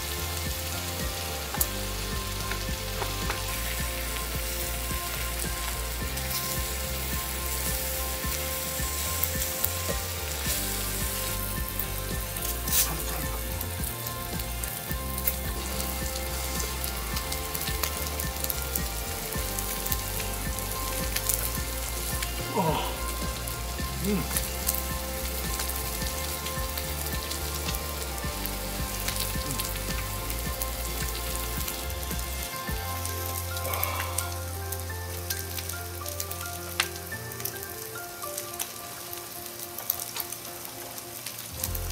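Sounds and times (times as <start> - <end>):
food sizzling in a hot pan: 0.0 - 41.9.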